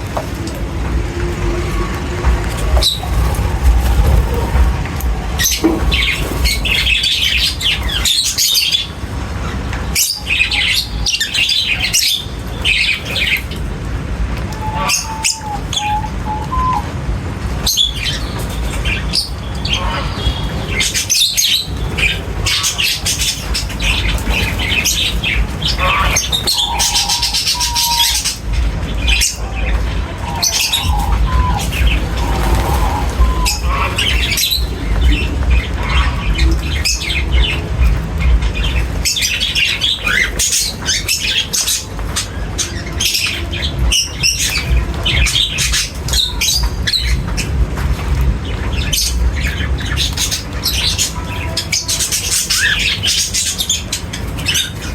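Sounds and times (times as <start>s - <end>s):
steady low rumble: 0.0s - 51.4s
birds chirping and squawking: 0.0s - 54.9s.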